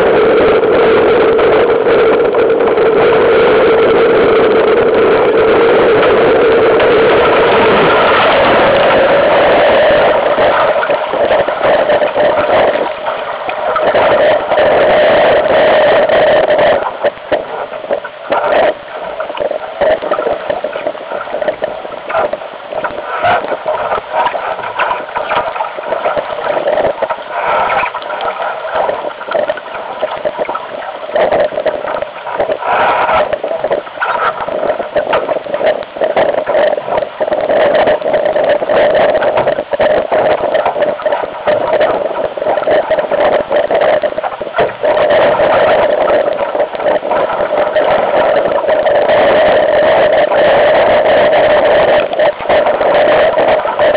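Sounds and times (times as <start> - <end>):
water rushing along boat hull: 0.0 - 53.9
wind buffeting microphone: 0.0 - 53.9.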